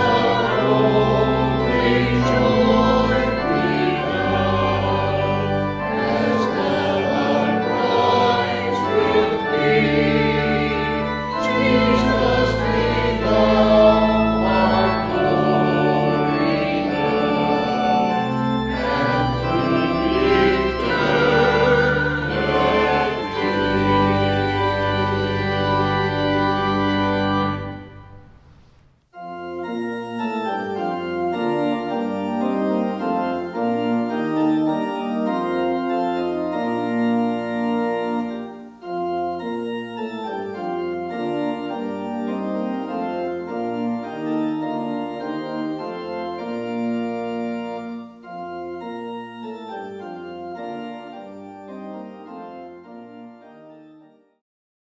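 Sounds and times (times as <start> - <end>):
organ chords: 0.0 - 54.4.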